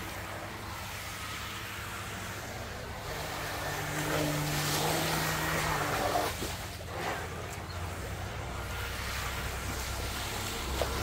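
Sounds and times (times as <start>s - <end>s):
hiss of churned water and spray: 0.0s - 11.0s
low hum of boat drive: 0.0s - 11.0s.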